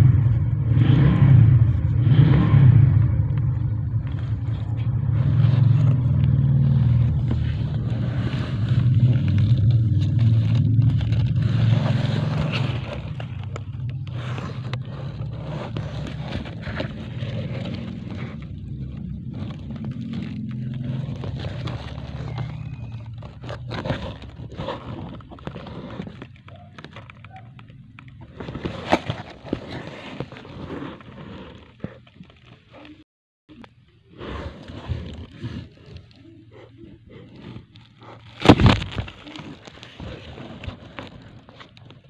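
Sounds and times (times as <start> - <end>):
low motor rumble: 0.0 - 42.0
scratchy rustling: 3.1 - 42.0.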